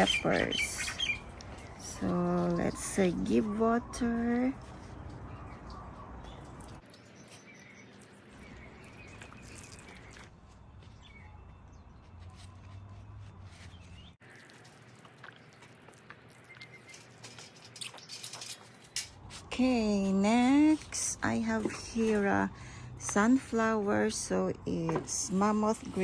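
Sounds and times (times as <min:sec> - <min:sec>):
small birds chirping: 0:00.0 - 0:14.5, 0:15.3 - 0:26.0.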